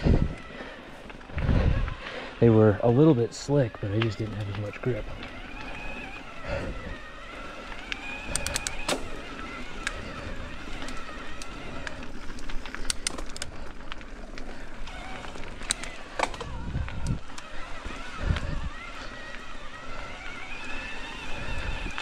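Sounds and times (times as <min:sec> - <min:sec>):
bike clicks and rattles: 0:00.0 - 0:22.0
tyre and wind rumble: 0:00.0 - 0:22.0
wavering whine: 0:00.0 - 0:22.0.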